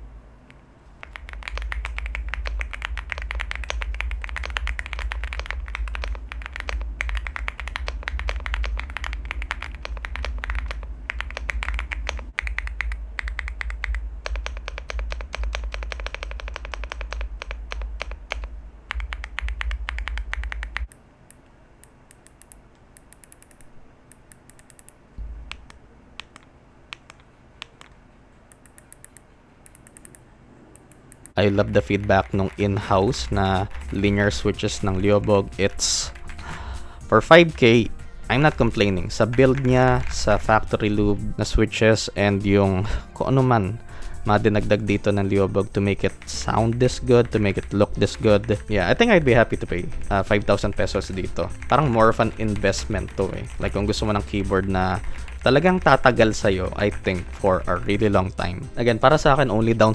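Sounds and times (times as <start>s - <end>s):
mechanical keyboard typing: 1.0s - 21.0s, 21.8s - 30.2s, 30.8s - 36.6s, 38.4s - 41.0s, 44.4s - 58.4s.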